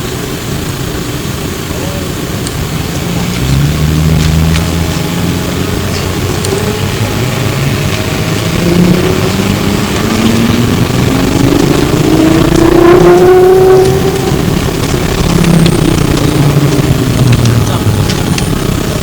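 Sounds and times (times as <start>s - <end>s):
cabin running rumble: 0.0s - 19.0s
electric motor whine: 1.4s - 19.0s.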